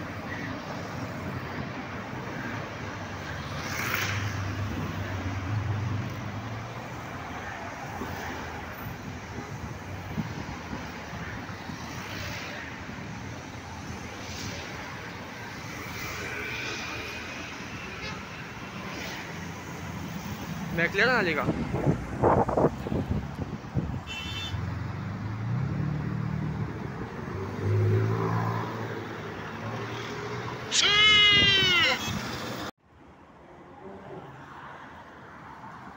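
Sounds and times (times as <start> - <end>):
cars driving past: 0.1 - 30.7.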